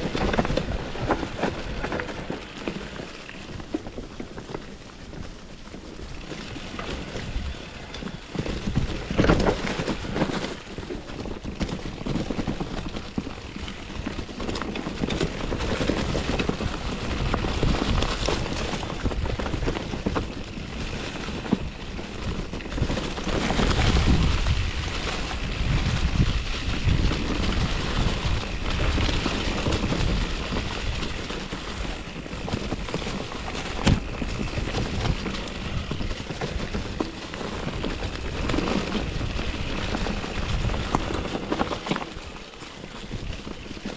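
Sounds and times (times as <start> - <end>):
bike tyres crunching over stones: 0.0 - 43.9
wind on microphone: 6.0 - 43.9.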